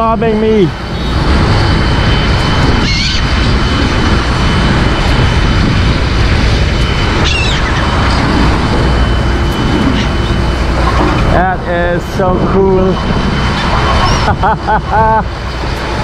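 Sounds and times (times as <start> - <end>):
gulls calling: 0.0 - 16.0
loud rumbling background noise: 0.0 - 16.0.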